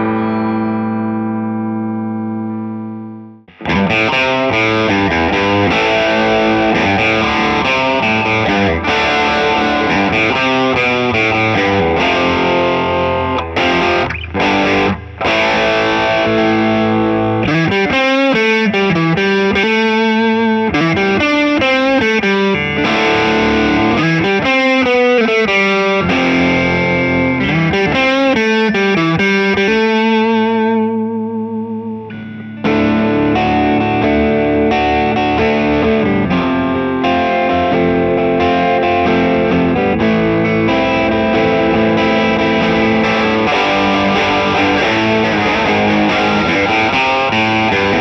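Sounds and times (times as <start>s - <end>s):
overdriven electric guitar: 0.0s - 48.0s.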